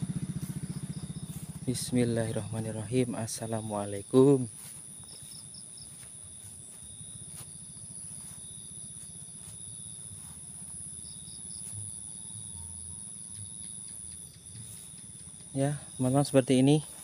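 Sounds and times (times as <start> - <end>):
high cricket trill: 0.0 - 17.0
insect chirps: 0.0 - 17.0
lower insect trill: 0.0 - 17.0.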